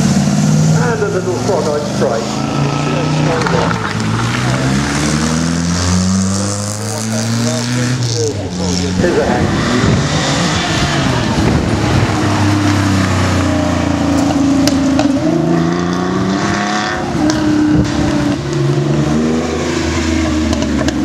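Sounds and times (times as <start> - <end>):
sports car engine accelerating: 0.0 - 21.0.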